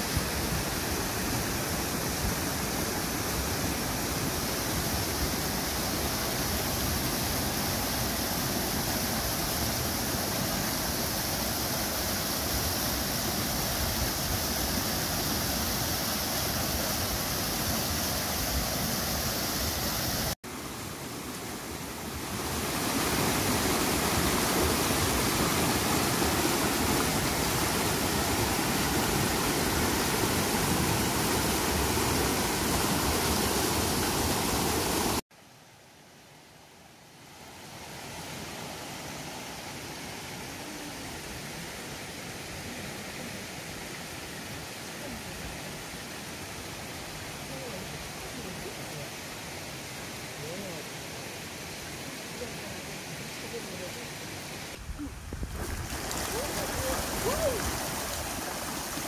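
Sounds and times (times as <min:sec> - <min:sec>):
stream rushing over rocks: 0:00.0 - 0:35.8, 0:36.4 - 0:59.0.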